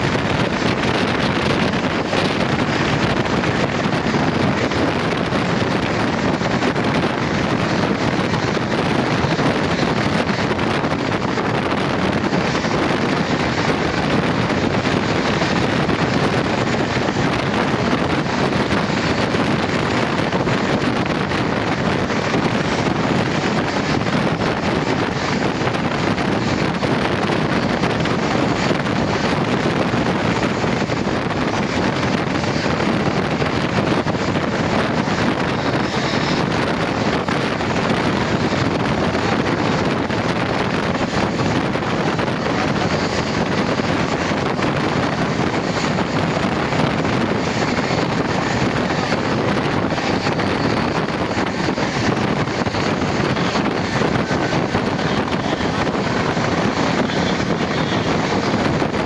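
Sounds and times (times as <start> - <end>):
train rushing at speed: 0.0 - 59.0
wind buffeting microphone: 0.0 - 59.0.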